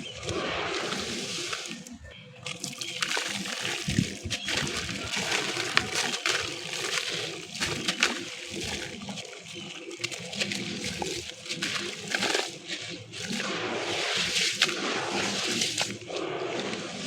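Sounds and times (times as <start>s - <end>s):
concrete crunching in water: 0.0s - 17.0s
water sloshing: 0.0s - 17.0s.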